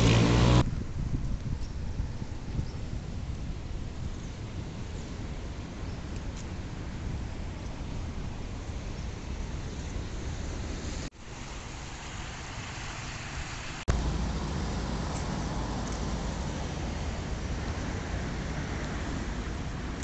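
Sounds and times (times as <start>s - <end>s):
road traffic: 0.0s - 20.0s
wind: 0.0s - 20.0s.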